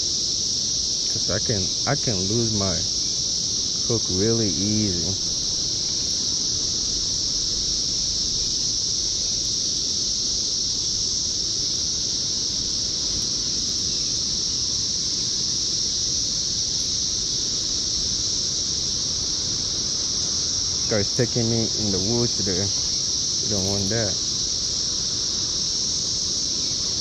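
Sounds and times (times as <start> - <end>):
cicadas droning: 0.0 - 27.0.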